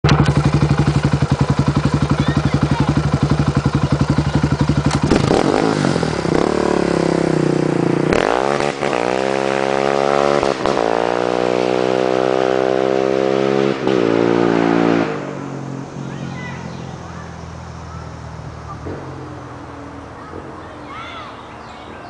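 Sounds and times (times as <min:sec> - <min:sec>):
quad engine revving: 0:00.0 - 0:20.6.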